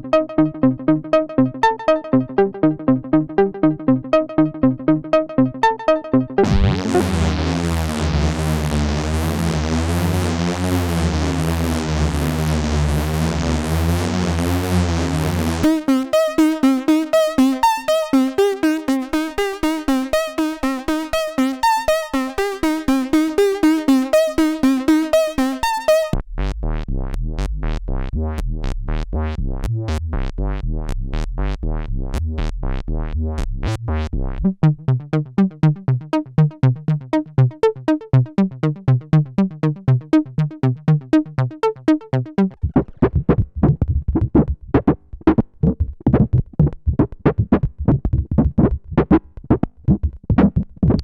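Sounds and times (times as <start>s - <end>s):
synthesizer staccato melody: 0.0s - 26.2s, 33.3s - 51.0s
synthesizer low drone: 0.0s - 44.8s
buzzy synth bass pattern: 0.0s - 51.0s.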